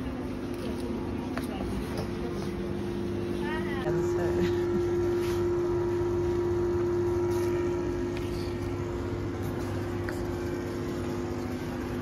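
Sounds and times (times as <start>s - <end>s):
ventilation hum with steady tone: 0.0s - 12.0s.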